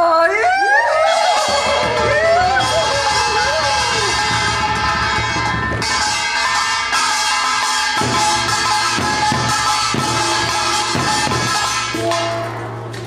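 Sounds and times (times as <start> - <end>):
folk percussion band drumming: 1.1 - 12.7.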